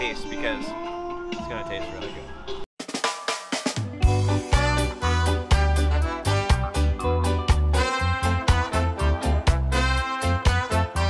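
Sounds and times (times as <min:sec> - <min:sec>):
upbeat music with bass and beat: 0:02.1 - 0:11.0.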